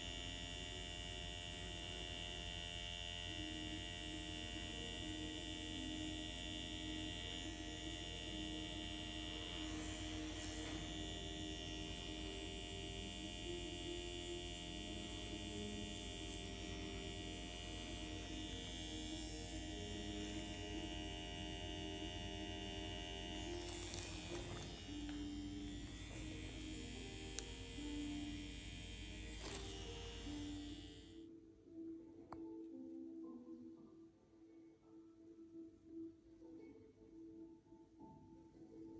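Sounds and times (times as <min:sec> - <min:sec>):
electric hum with whining tones: 0:00.0 - 0:31.3
soft background music: 0:00.0 - 0:38.9.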